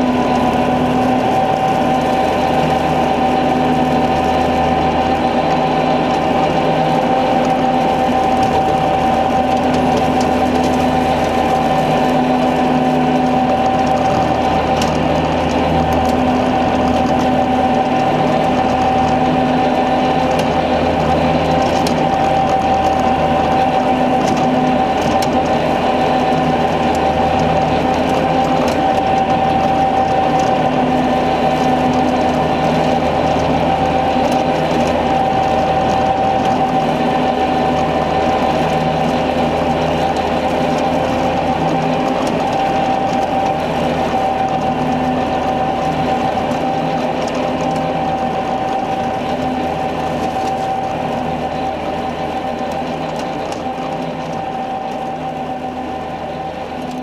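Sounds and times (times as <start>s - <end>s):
rotary cutter mechanical whine: 0.0s - 57.0s
tractor engine: 0.0s - 57.0s.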